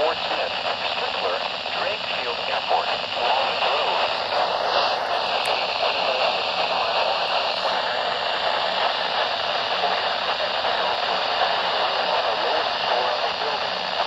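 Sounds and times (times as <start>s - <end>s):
faint broadcast voice: 0.0s - 14.0s
radio static hiss: 0.0s - 14.0s.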